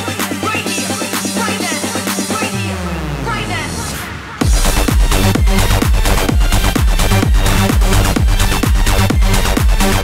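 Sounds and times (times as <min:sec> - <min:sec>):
tech house dance music: 0:00.0 - 0:10.0.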